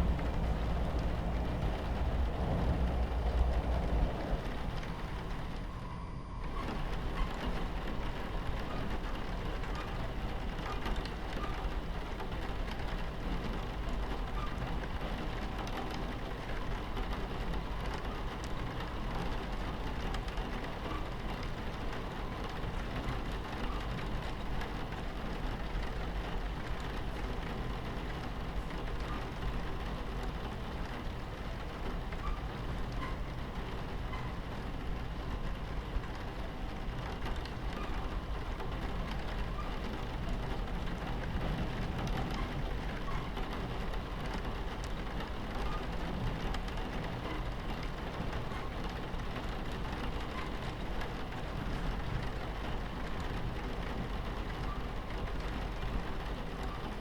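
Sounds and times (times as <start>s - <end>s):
rain on a train window: 0.0s - 57.0s
train rumbling on tracks: 0.0s - 57.0s.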